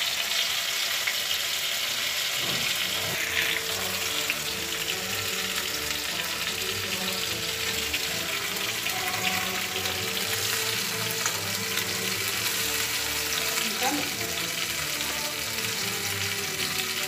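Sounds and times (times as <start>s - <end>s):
food sizzling and crackling in oil: 0.0s - 17.0s.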